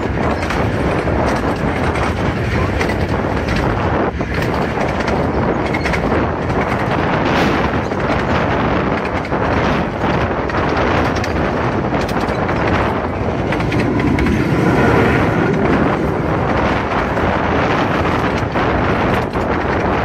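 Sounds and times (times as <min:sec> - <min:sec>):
train wheels on track: 0:00.0 - 0:20.0.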